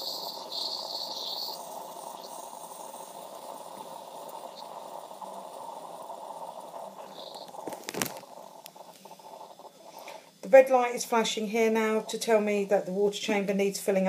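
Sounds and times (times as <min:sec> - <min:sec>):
liquid running into cup: 0:00.0 - 0:12.2
high hiss: 0:00.0 - 0:12.7
coffee machine pump hum: 0:00.0 - 0:13.5.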